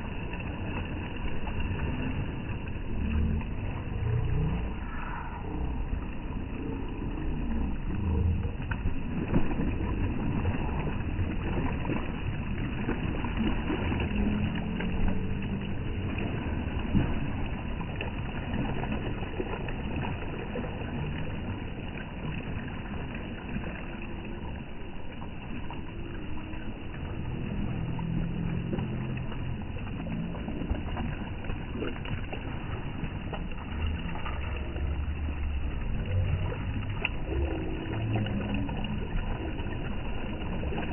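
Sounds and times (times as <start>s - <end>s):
steady low rumble: 0.0s - 40.9s
water lapping against stone: 0.0s - 40.9s.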